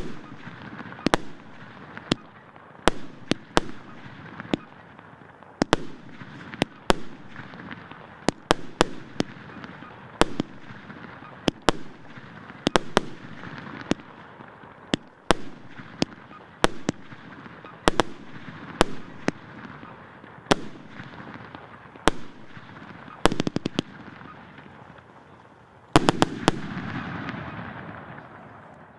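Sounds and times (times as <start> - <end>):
fireworks bangs: 0.0 - 28.9
low fireworks rumble: 0.0 - 28.9.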